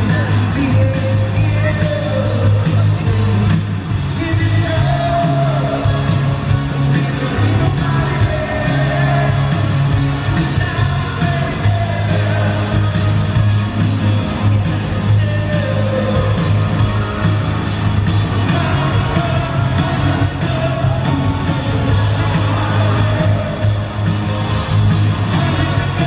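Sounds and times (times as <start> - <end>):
sung vocals: 0.0 - 13.3, 14.9 - 16.7, 18.3 - 24.1, 25.1 - 26.0
heavy bass notes: 0.0 - 26.0
live rock band playing: 0.0 - 26.0.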